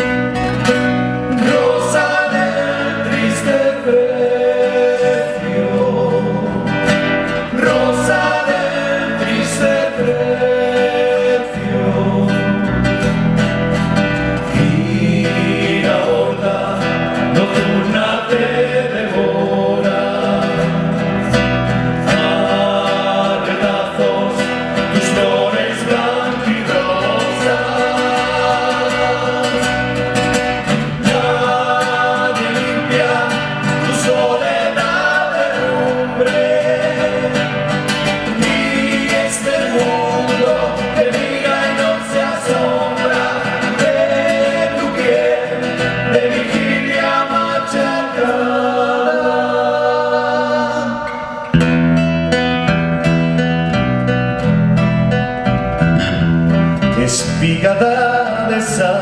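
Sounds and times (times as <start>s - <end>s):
acoustic guitars: 0.0s - 59.0s
electric bass: 0.0s - 59.0s
men singing in harmony: 1.2s - 13.0s, 14.4s - 51.6s, 57.0s - 59.0s.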